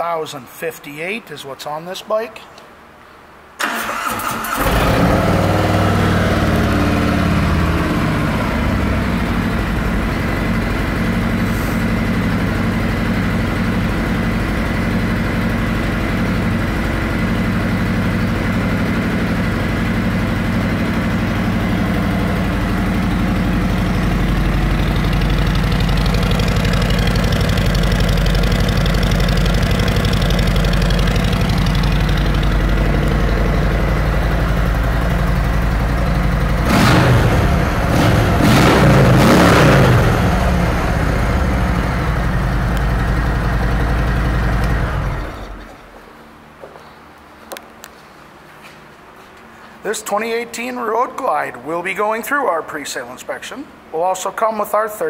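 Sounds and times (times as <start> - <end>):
motorcycle engine cranking and idling: 3.6 - 47.9.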